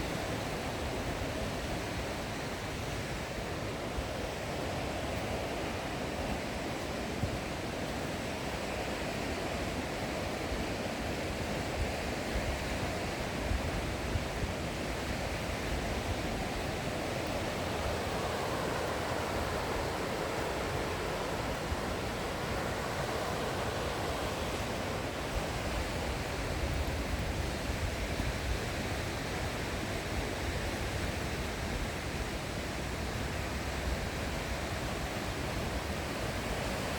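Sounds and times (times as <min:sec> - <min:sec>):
fast-flowing river rushing: 0:00.0 - 0:36.9.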